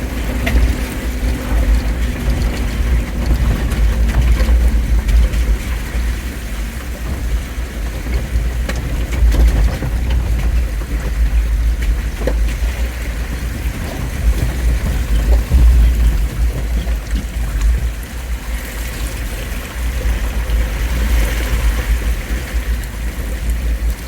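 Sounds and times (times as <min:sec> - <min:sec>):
car engine rumble: 0:00.0 - 0:24.0
road noise: 0:00.0 - 0:24.0.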